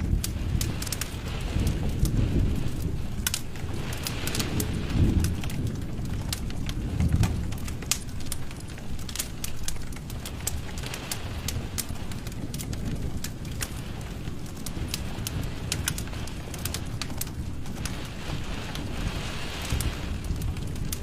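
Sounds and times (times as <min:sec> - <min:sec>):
fire crackling and popping: 0:00.0 - 0:21.0
low fire rumble: 0:00.0 - 0:21.0.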